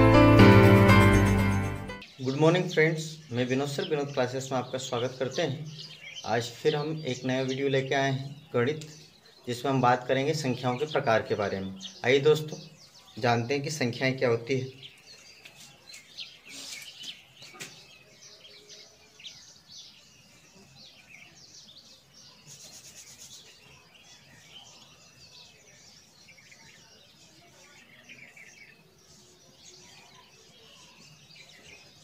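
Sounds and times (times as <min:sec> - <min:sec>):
small birds chirping: 0:01.0 - 0:32.0.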